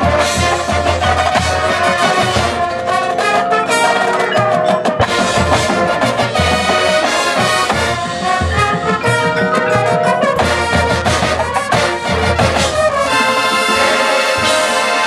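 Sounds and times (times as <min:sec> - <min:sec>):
brass chords: 0:00.0 - 0:15.0.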